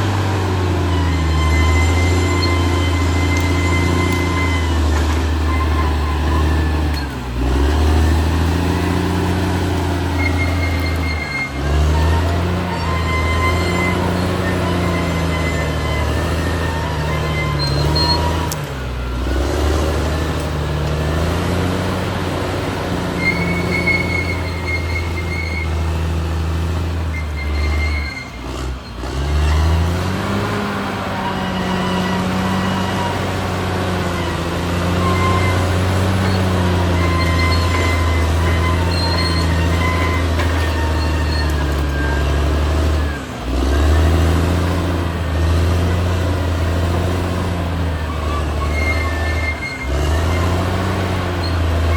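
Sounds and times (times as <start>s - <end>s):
bulldozer diesel engine: 0.0s - 51.9s
high squeals from undercarriage: 0.3s - 20.3s, 22.9s - 26.2s, 26.9s - 44.3s, 47.8s - 51.9s.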